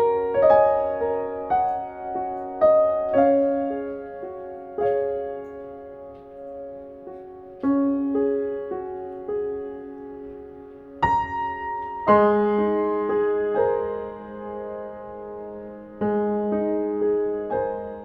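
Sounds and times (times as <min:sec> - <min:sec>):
slow solo piano music: 0:00.0 - 0:18.0.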